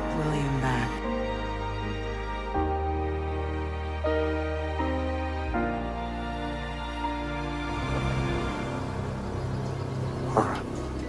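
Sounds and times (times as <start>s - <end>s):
slow sad held chords: 0.0s - 11.0s.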